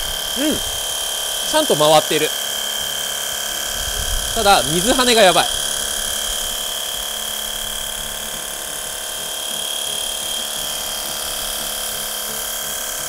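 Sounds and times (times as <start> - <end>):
pressure washer whining: 0.0 - 13.0.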